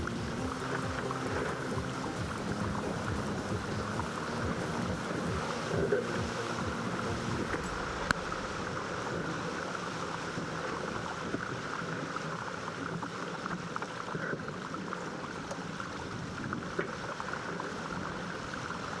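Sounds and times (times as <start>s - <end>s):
water rushing along a hull: 0.0s - 19.0s.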